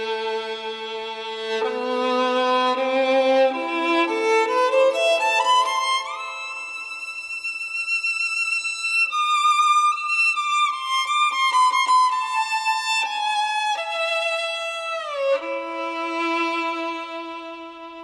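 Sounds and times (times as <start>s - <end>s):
violin slow melody: 0.0s - 18.0s.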